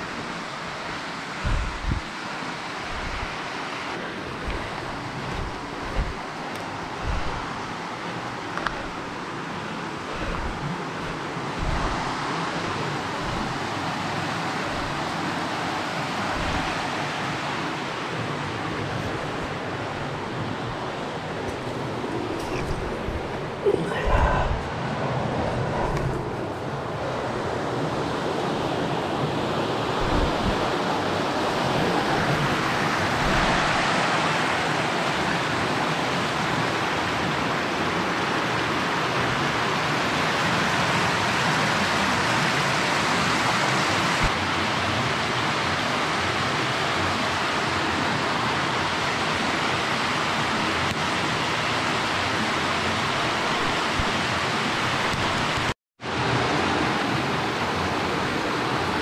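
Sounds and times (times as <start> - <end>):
cascading water rushing: 0.0 - 59.0.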